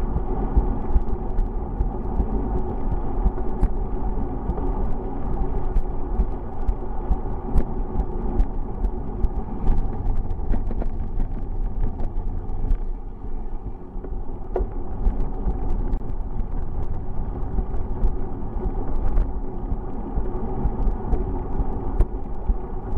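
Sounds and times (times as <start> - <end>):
bicycle clicks and rattles: 0.0 - 13.0, 14.0 - 22.9
wind and road noise: 0.0 - 22.9.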